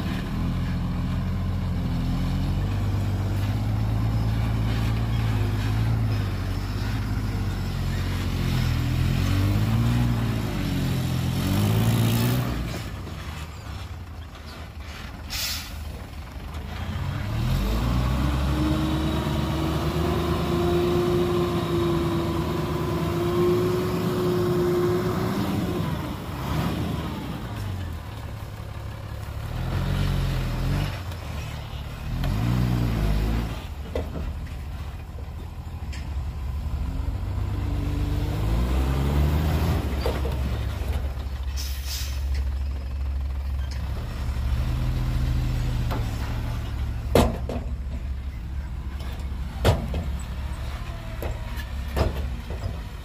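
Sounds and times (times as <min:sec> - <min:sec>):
heavy diesel engines revving: 0:00.0 - 0:53.0.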